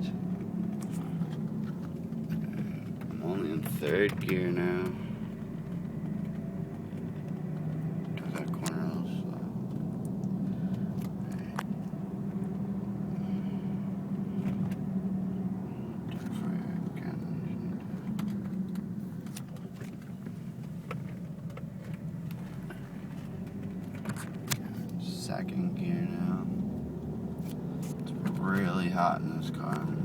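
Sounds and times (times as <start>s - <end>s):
car engine running: 0.0s - 30.0s
light clicks and rattles: 0.1s - 26.0s, 27.0s - 30.0s.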